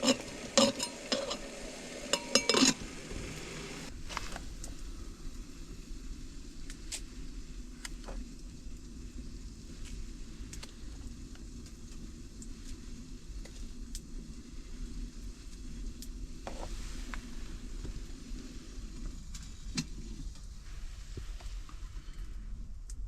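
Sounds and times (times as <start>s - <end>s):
fire crackles: 0.0s - 23.0s
wood fire rumbling in stove: 0.0s - 23.0s.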